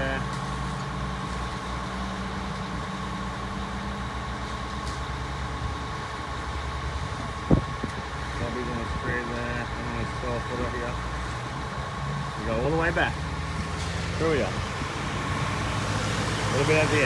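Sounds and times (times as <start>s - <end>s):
diesel engine throbbing: 0.0s - 17.0s.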